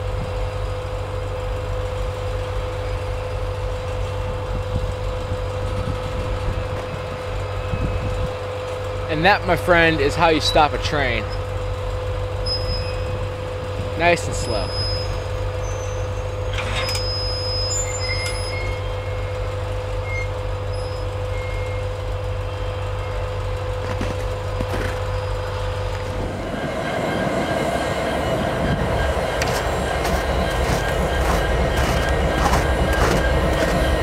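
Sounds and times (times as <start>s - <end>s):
diesel locomotives: 0.0s - 34.0s
freight train cars rumbling: 0.0s - 34.0s
train wheel squeal: 2.3s - 4.7s, 5.3s - 11.6s, 12.4s - 34.0s.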